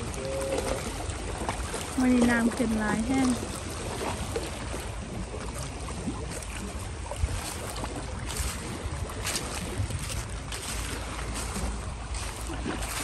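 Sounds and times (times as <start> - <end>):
waves lapping rocky shore: 0.0 - 13.0
wind buffeting microphone: 0.0 - 13.0.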